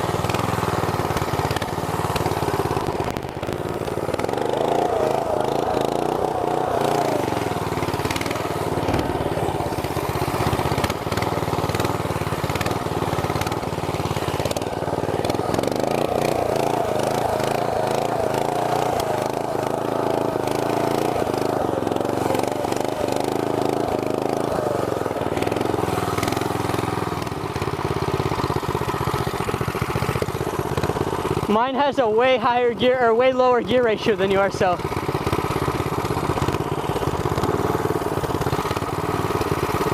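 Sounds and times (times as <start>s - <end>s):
small go kart engine running: 0.0s - 39.9s.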